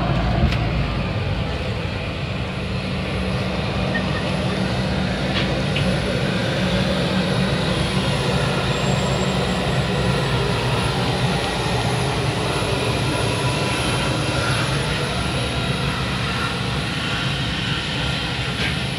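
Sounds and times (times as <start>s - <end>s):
bus engine drone: 0.0s - 18.9s.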